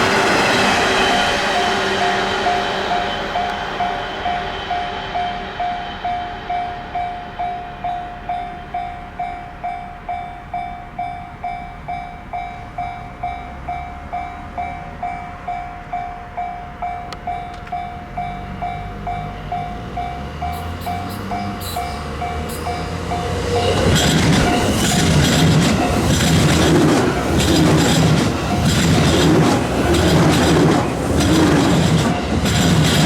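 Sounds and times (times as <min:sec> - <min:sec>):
approaching train rumble: 0:00.0 - 0:33.0.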